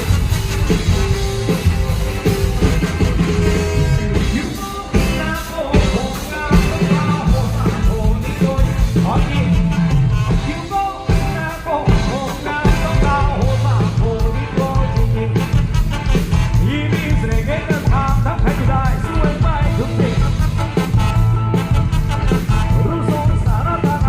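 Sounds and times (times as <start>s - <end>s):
live dance band: 0.0s - 24.0s
steady drum beat: 0.0s - 24.0s
person singing: 1.2s - 21.0s, 22.3s - 24.0s.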